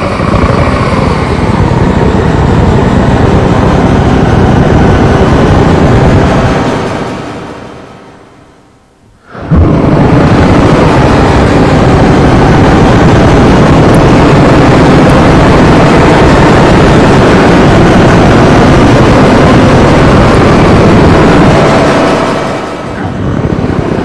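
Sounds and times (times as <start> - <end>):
dense distorted noise: 0.0 - 24.0.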